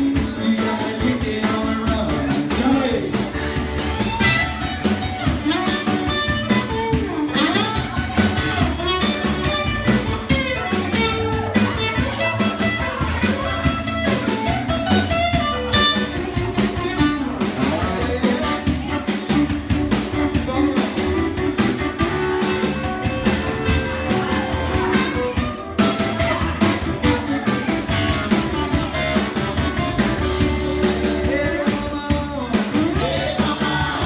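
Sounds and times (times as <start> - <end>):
drum kit steady beat: 0.0 - 34.0
lead guitar: 0.0 - 34.0
live band playing: 0.0 - 34.0.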